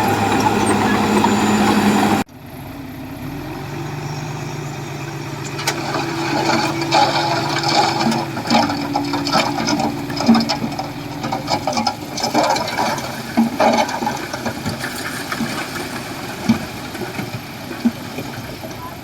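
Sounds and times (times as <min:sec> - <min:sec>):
bulldozer clattering and knocking: 0:00.0 - 0:02.3, 0:04.8 - 0:19.0
bulldozer engine running: 0:00.0 - 0:19.0.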